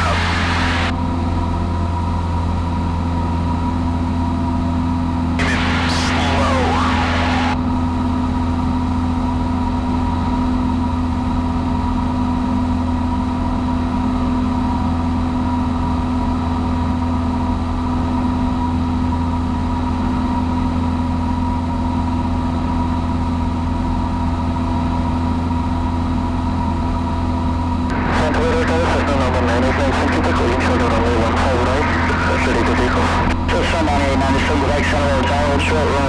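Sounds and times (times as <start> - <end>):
airplane engine and propeller droning: 0.0 - 36.0.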